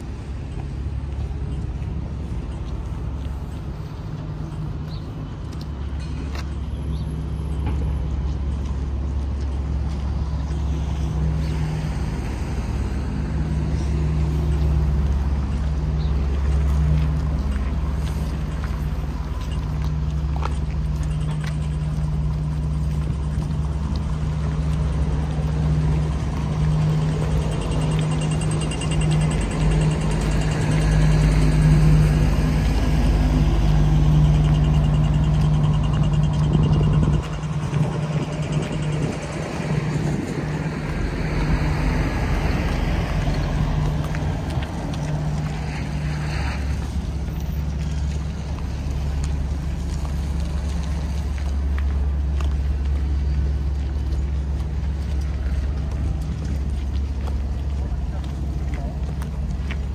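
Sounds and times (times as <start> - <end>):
street traffic: 0.0 - 59.9
vehicle engine humming: 0.0 - 59.9.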